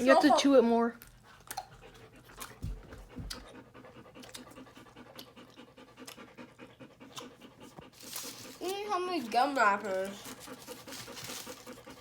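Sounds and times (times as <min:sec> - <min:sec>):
dog panting: 0:00.1 - 0:12.0.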